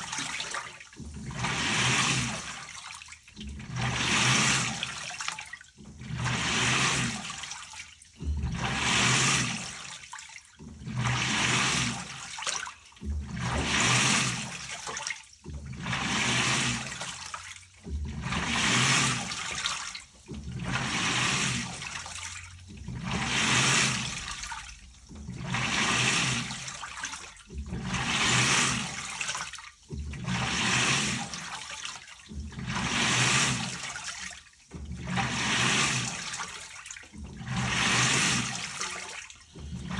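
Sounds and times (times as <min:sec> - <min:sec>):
washing machine water swishing: 0:00.0 - 0:39.9
low motor hum: 0:01.0 - 0:09.9, 0:10.6 - 0:12.4, 0:13.0 - 0:14.8, 0:15.4 - 0:29.2, 0:29.8 - 0:31.5, 0:32.3 - 0:33.9, 0:34.7 - 0:38.8, 0:39.4 - 0:39.9.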